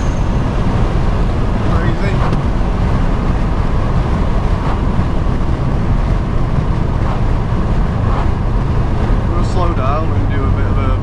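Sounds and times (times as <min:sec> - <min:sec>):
car engine cruising: 0:00.0 - 0:11.0
tyre and road noise: 0:00.0 - 0:11.0.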